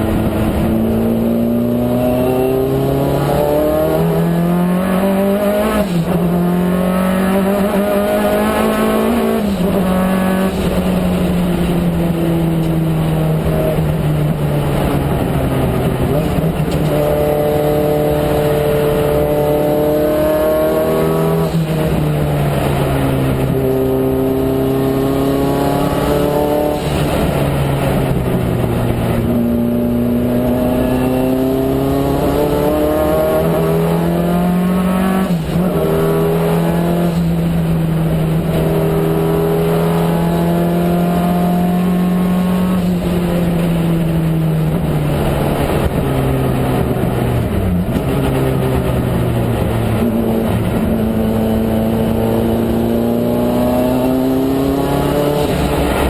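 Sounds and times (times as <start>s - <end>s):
turbocharged car engine: 0.0s - 56.0s.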